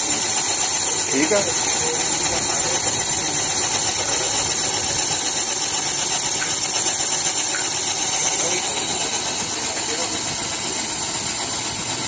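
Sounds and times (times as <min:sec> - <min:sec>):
boring machine with high hiss: 0:00.0 - 0:12.0.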